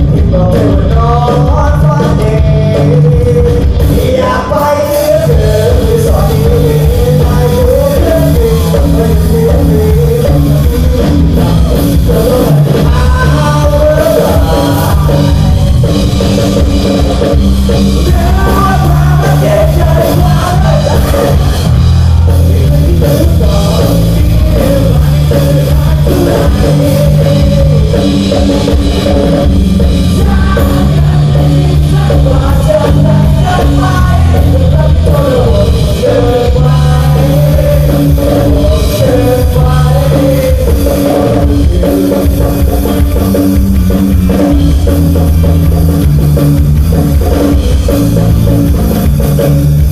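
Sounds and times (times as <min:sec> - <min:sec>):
man singing: 0:00.0 - 0:43.2
live rock band playing: 0:00.0 - 0:49.9.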